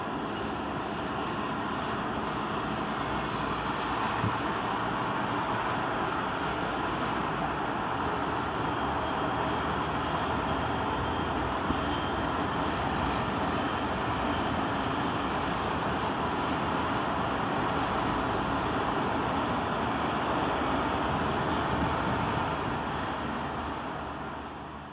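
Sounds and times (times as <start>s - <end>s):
road traffic noise: 0.0s - 24.9s.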